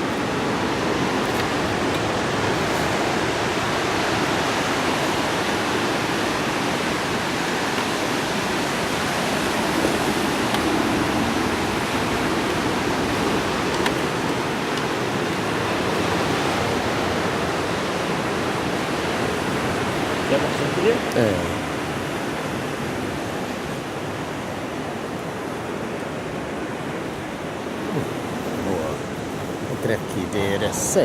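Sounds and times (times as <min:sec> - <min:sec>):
surf breaking on shore: 0:00.0 - 0:31.0.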